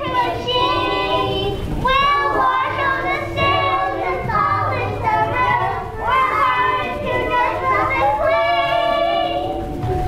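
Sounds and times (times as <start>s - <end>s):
young children singing: 0.0s - 10.0s.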